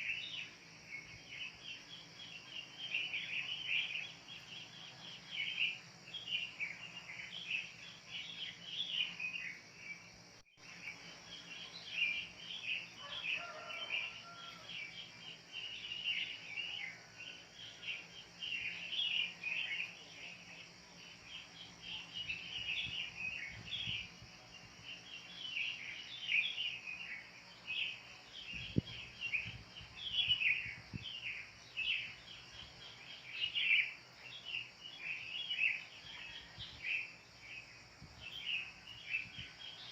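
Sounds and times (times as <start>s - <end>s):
insect hiss: 0.0s - 39.9s.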